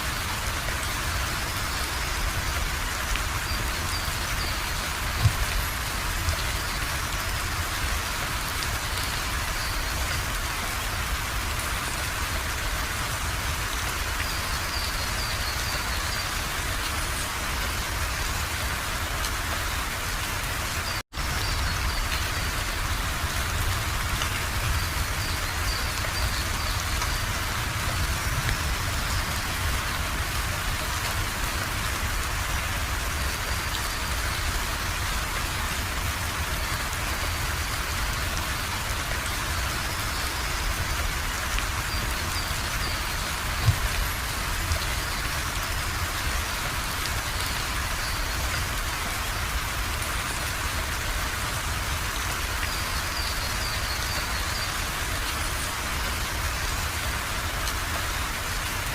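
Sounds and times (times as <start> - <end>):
rain pattering on surfaces: 0.0 - 58.9.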